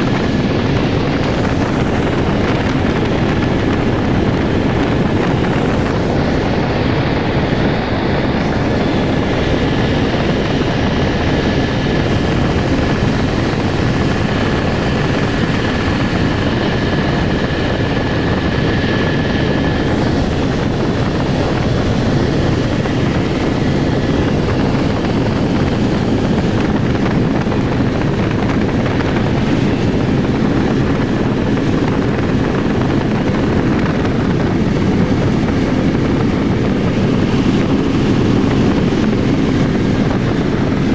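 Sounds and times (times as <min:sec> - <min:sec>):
helicopter rotor drone: 0:00.0 - 0:40.9.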